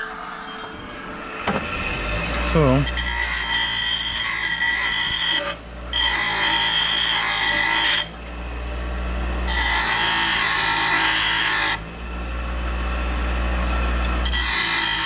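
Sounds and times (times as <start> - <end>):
power grinder grinding steel: 1.2 - 15.0
grinder motor humming: 1.3 - 15.0.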